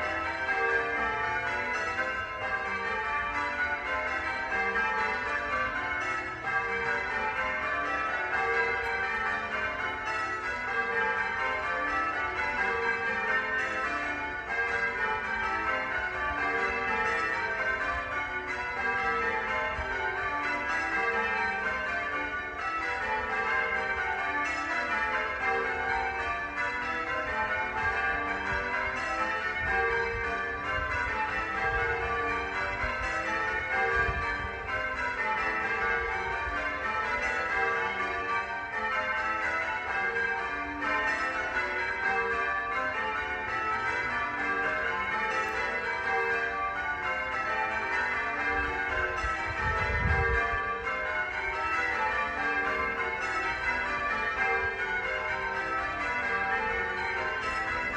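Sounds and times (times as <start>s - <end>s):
church bells pealing: 0.0s - 57.9s.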